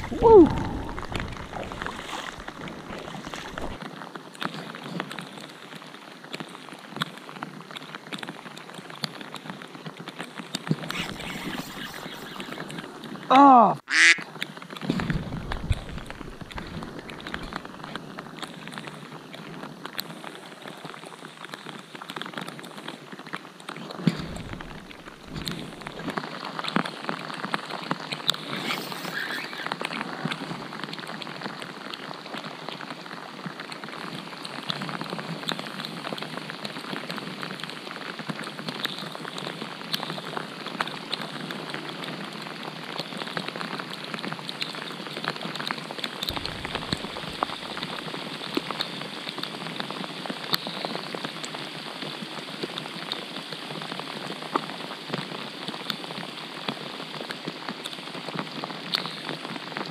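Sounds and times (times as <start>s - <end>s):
rain falling on water: 0.0s - 59.9s.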